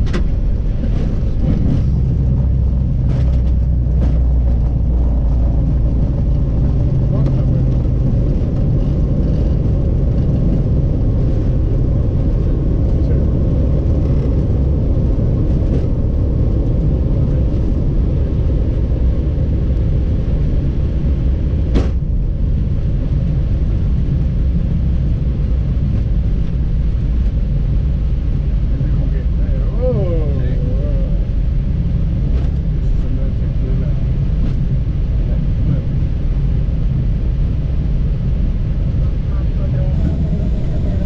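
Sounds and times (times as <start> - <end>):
airliner cockpit low rumble: 0.0 - 41.0.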